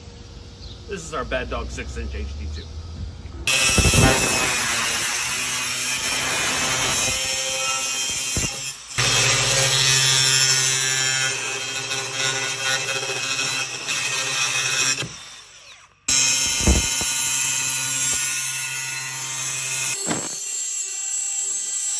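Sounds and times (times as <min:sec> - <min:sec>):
angle grinder cutting: 0:03.4 - 0:21.9.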